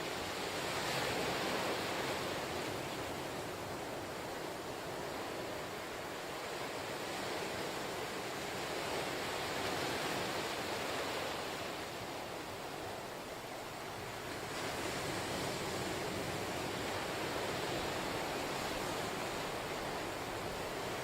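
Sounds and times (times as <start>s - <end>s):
ocean waves washing onto shore: 0.0s - 21.0s.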